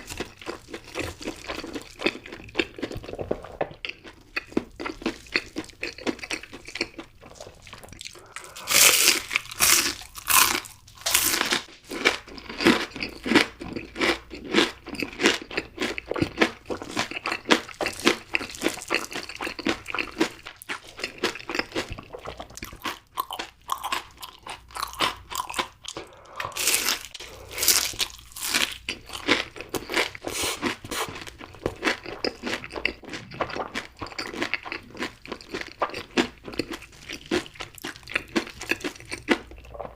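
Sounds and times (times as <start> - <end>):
chewing: 0.0 - 39.9
crunchy bites crackling: 3.9 - 16.1, 16.9 - 39.9.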